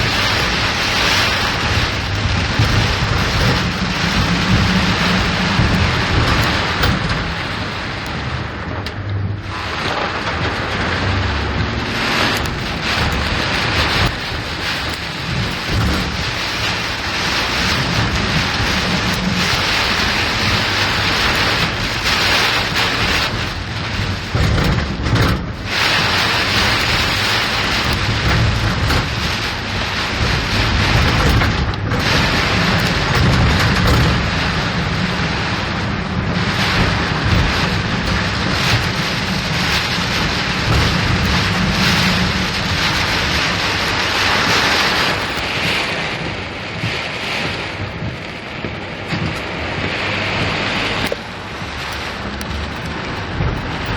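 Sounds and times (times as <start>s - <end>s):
car driving through floodwater: 0.0s - 53.9s
heavy rain: 0.0s - 53.9s
low engine and road rumble: 0.0s - 53.9s.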